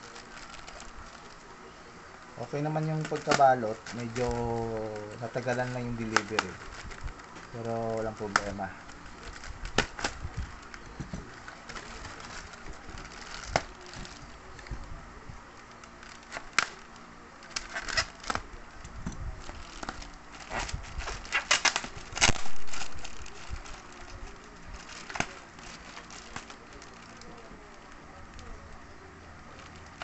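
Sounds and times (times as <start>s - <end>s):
plastic wrapping crinkling: 0.0s - 30.0s.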